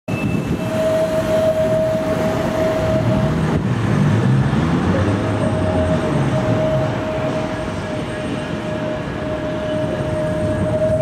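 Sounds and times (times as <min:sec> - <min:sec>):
tram rumbling on rails: 0:00.1 - 0:11.0.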